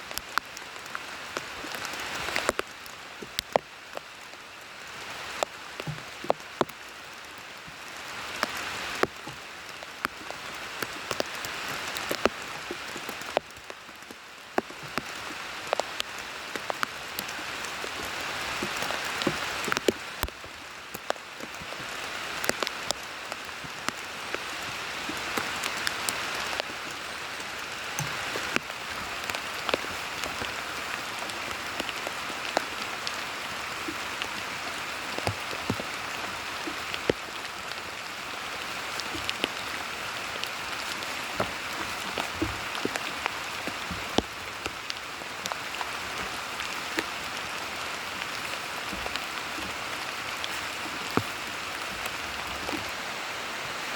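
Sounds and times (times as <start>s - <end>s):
raindrops ticking: 0.0s - 53.4s
rain falling: 0.0s - 53.9s.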